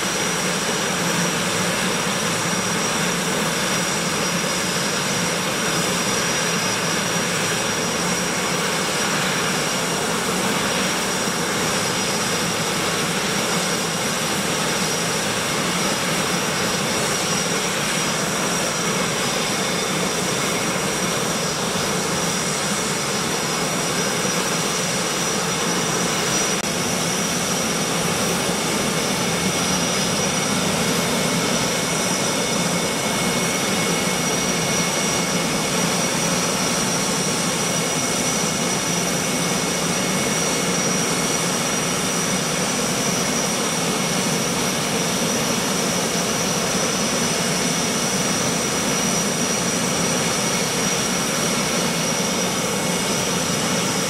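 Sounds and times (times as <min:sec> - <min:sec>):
jet engine idling: 0:00.0 - 0:54.0.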